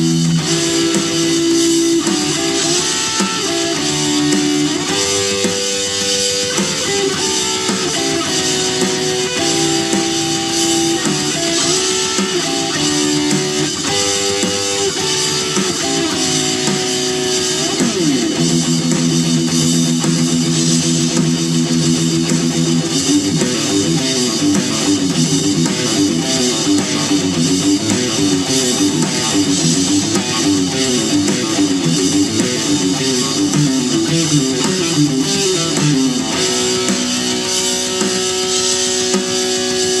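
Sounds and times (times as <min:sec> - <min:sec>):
drums and bass: 0:00.0 - 0:40.0
hard rock electric guitar: 0:00.0 - 0:40.0.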